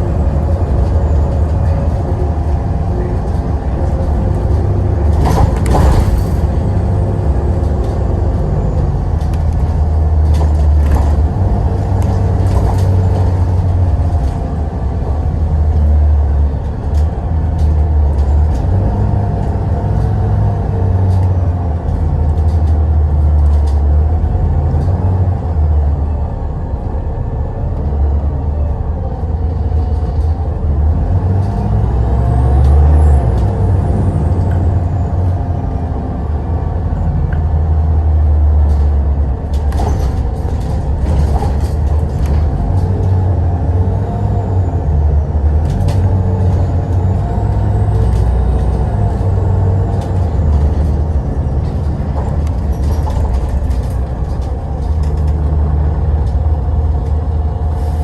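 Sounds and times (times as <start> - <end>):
heavy vehicle engine rumbling: 0.0 - 58.0.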